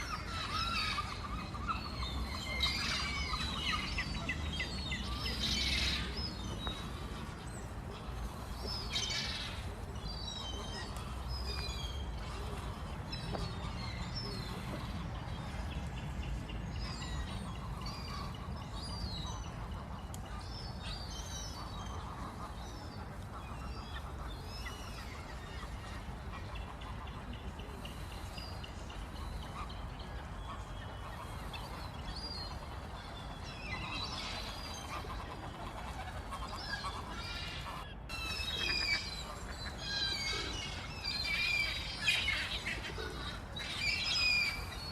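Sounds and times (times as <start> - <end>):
birds calling: 0.0 - 44.9.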